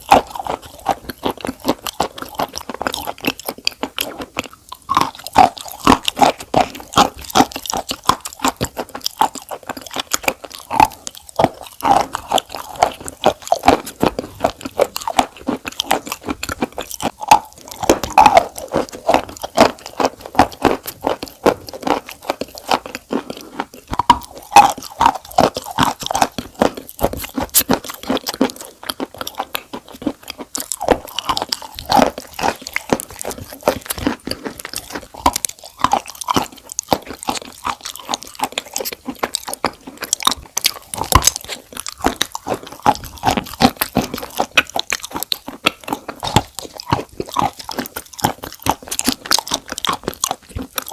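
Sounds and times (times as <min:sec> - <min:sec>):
crunchy chewing: 0:00.0 - 0:50.9.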